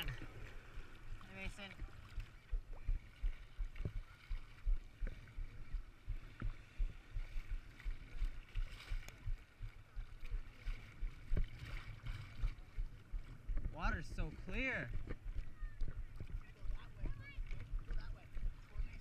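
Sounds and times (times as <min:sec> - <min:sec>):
water sloshing against board: 0:00.0 - 0:19.0
water splashes: 0:00.0 - 0:19.0
wind on microphone: 0:01.8 - 0:19.0.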